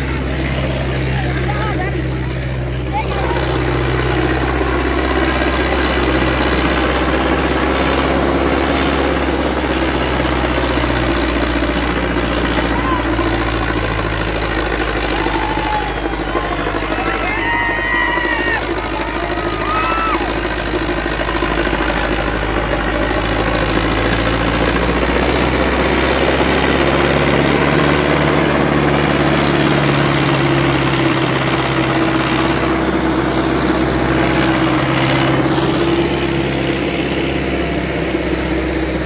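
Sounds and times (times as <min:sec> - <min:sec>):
tractor diesel engine under load: 0:00.0 - 0:39.0.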